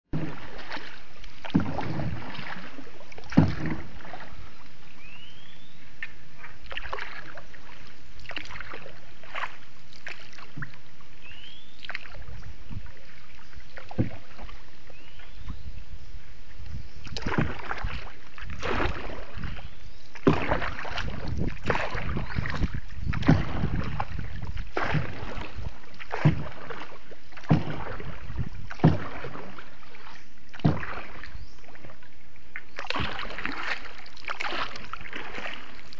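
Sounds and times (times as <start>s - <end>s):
paddles splashing in water: 0.1s - 35.9s.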